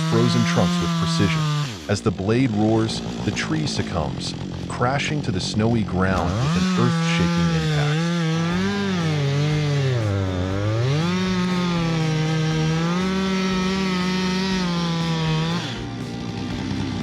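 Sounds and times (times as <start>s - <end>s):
chainsaw at high revs: 0.0s - 17.0s
rough low engine: 0.0s - 17.0s.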